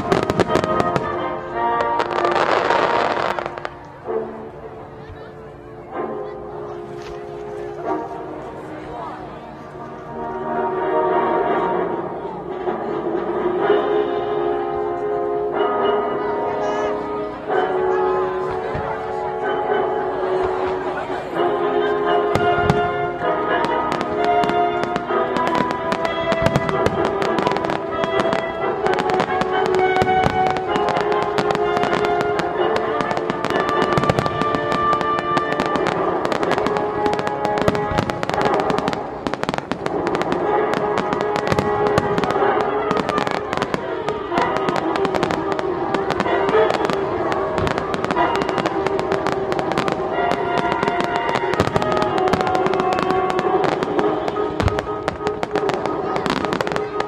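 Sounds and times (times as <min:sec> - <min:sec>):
fireworks bangs and crackling: 0:00.0 - 0:57.0
music: 0:00.0 - 0:57.0.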